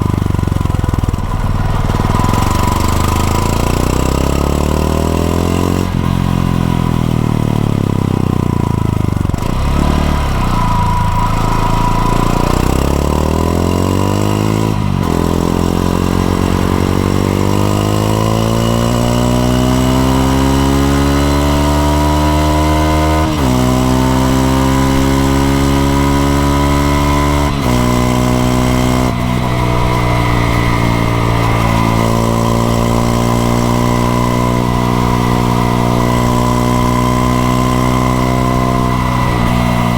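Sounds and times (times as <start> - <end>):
motorbike engine accelerating: 0.0 - 39.9.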